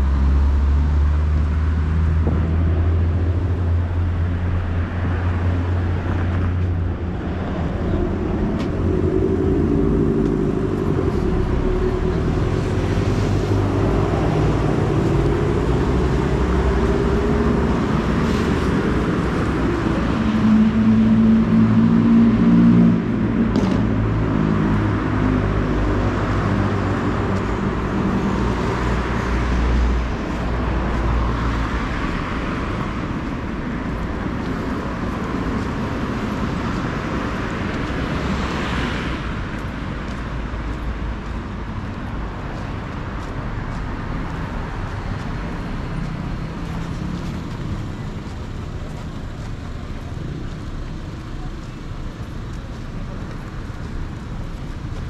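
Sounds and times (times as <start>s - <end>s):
cars passing with tyre hiss: 0.0s - 55.0s
heavy vehicle engine humming: 0.0s - 55.0s.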